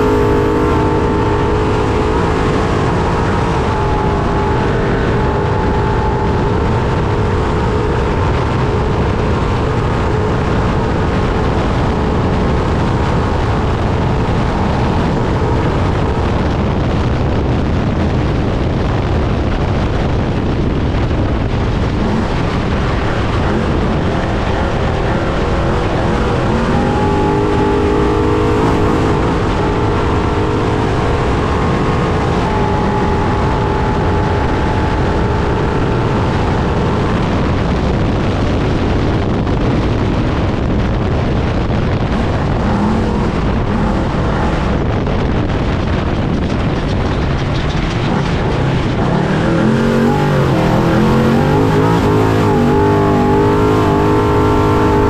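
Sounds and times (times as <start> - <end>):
wind roar and rumble: 0.0 - 55.0.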